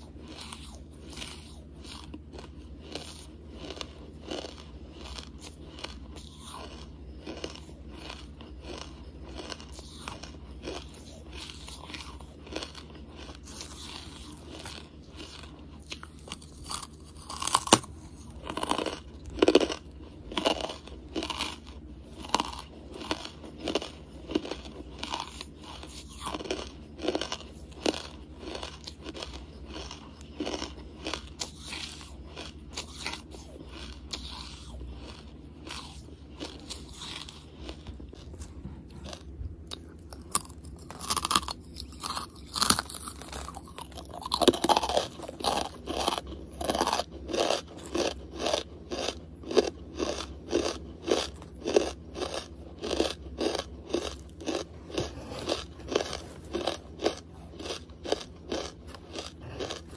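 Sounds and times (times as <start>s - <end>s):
crunching and chewing charcoal: 0.0s - 59.9s.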